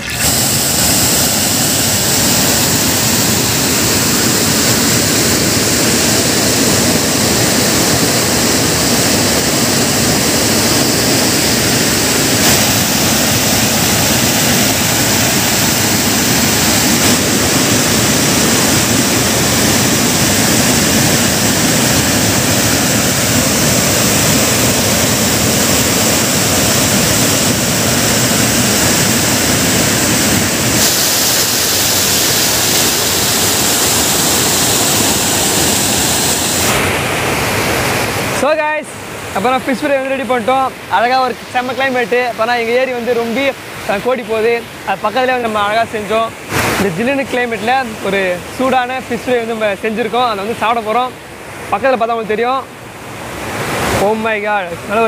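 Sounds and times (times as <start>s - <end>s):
water rushing over a weir: 0.0s - 55.0s.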